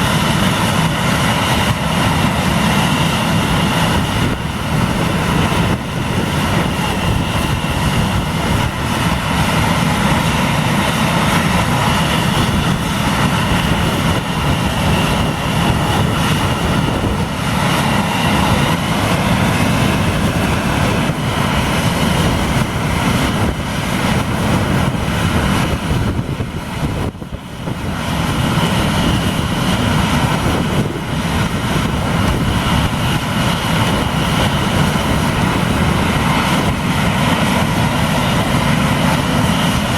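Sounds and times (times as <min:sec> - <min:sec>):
airliner engines at takeoff: 0:00.0 - 0:39.9.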